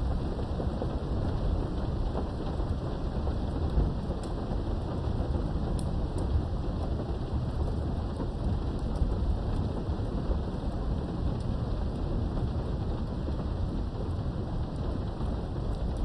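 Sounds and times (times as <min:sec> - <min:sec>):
low rumble of thunder: 0:00.0 - 0:16.0
rain heard through a window: 0:00.0 - 0:16.0.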